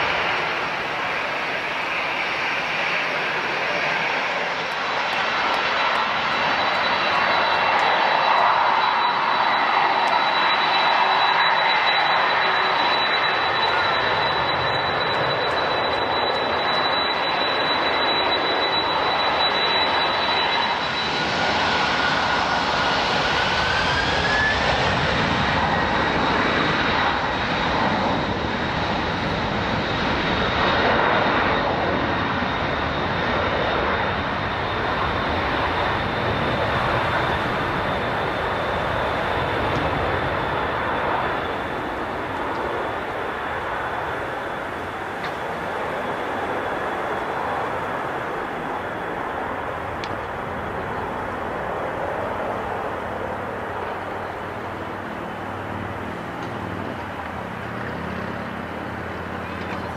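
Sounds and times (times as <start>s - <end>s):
jet engines roaring with whine: 0.0s - 59.9s.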